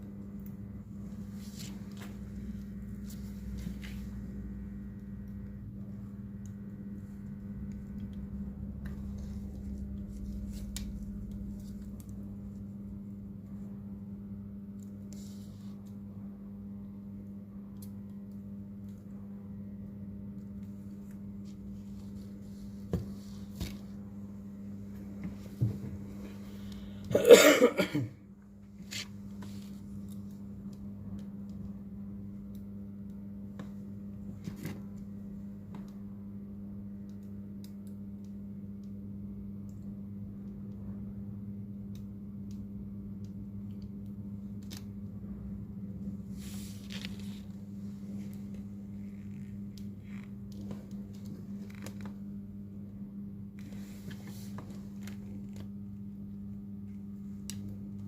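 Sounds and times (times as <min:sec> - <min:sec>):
low electrical hum: 0:00.0 - 0:58.0.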